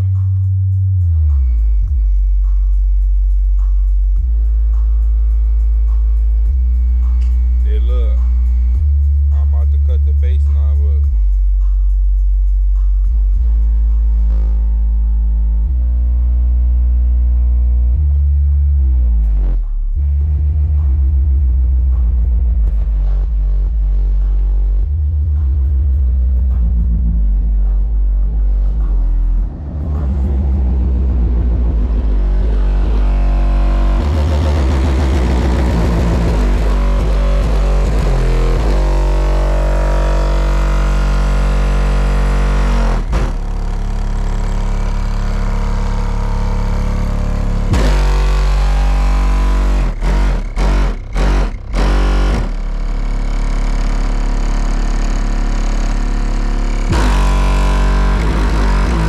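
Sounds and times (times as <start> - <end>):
deep bass notes from car speakers: 0.0 - 59.0.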